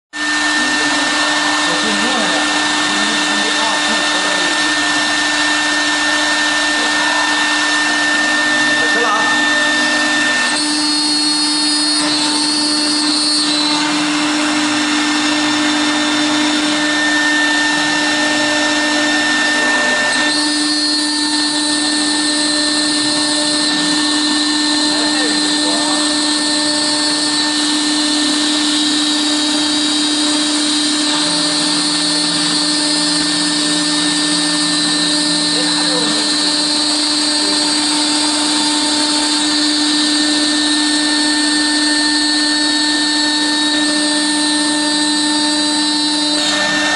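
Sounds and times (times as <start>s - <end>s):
router spindle high whine: 0.1s - 46.9s
cutter hissing through acrylic: 0.2s - 46.9s.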